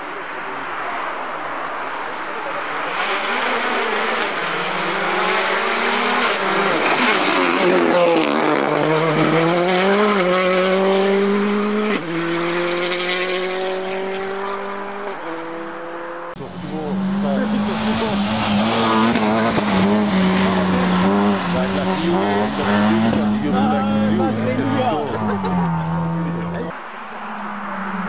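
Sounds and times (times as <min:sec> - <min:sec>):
rally car engine driving past: 0:00.2 - 0:28.0.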